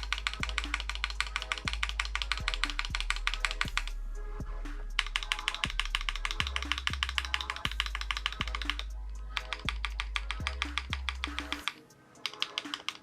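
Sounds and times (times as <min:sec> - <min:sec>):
mechanical keyboard typing: 0:00.0 - 0:03.9, 0:05.0 - 0:13.0
music with kick drum beat: 0:00.0 - 0:13.0.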